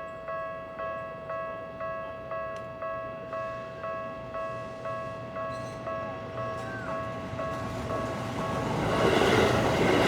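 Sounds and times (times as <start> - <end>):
level-crossing warning bell: 0.0 - 10.0.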